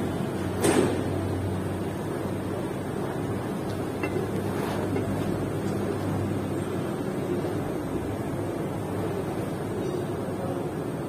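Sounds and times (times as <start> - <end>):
engine humming: 0.0 - 10.8.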